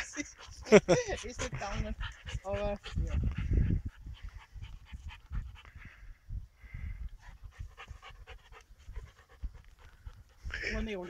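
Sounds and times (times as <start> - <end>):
dog panting quickly: 0.0 - 6.1, 6.8 - 11.0.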